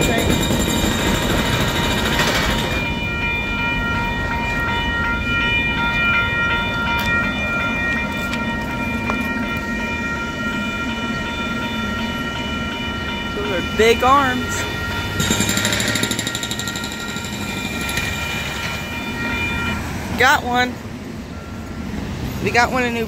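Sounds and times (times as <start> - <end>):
freight train rumbling past: 0.0 - 23.0
steady high tones: 0.0 - 23.0.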